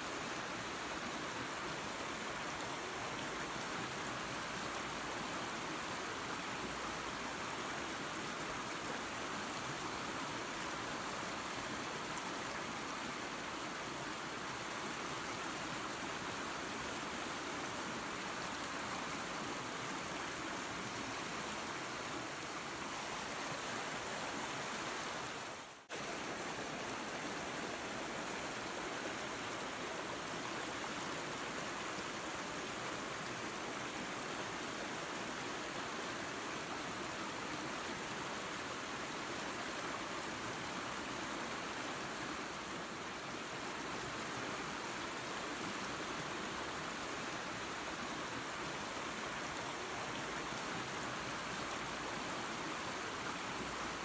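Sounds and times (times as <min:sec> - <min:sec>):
waterfall and creek water rushing: 0:00.0 - 0:54.0.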